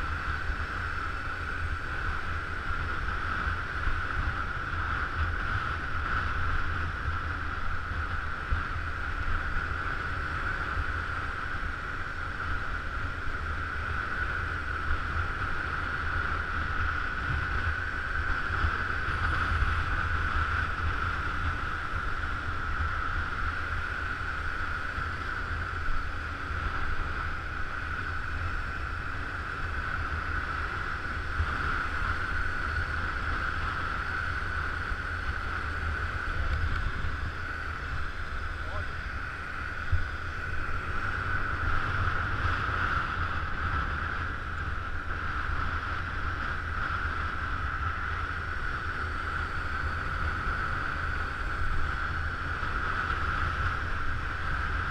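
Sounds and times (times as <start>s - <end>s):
steady hum: 0.0s - 54.9s
wind rushing over microphone: 0.0s - 54.9s.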